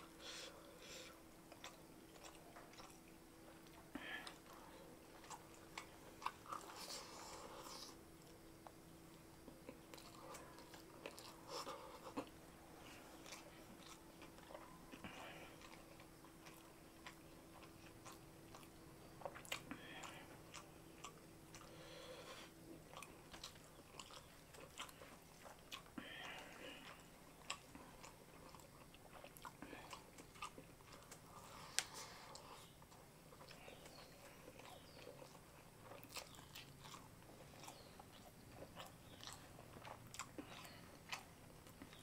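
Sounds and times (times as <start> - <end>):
person chewing: 0.2 - 42.0.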